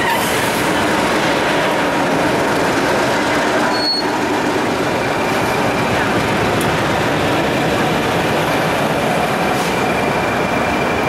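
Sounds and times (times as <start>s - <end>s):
diesel locomotive engine idling: 0.0s - 11.0s.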